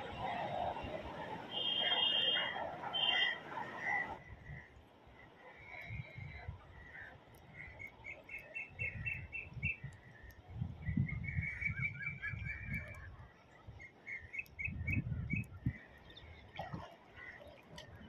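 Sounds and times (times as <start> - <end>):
wind buffeting microphone: 0.0 - 1.5, 2.6 - 5.0, 5.7 - 18.0.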